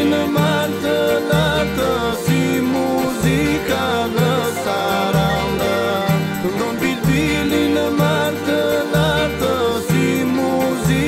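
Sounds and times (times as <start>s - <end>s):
folk music with ornamented melody: 0.0s - 11.0s.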